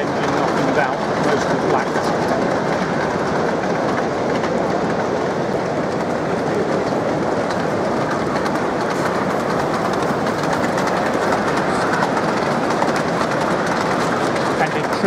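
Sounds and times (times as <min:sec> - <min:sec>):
model train wheels clicking: 0:00.0 - 0:15.0
steady running noise: 0:00.0 - 0:15.0.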